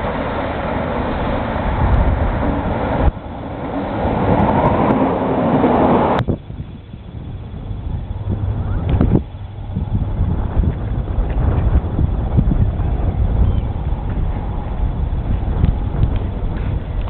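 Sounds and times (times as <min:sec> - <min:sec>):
train rumbling past on rails: 0:00.0 - 0:17.0.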